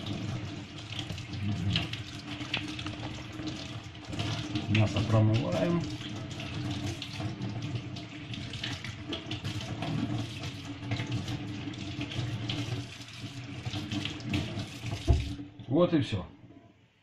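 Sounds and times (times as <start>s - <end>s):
tap water splashing in sink: 0.0s - 15.5s.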